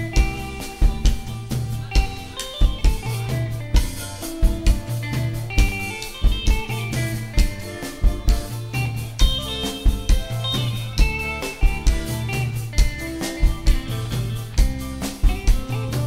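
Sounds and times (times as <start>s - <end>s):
live dance band playing: 0.0s - 16.0s.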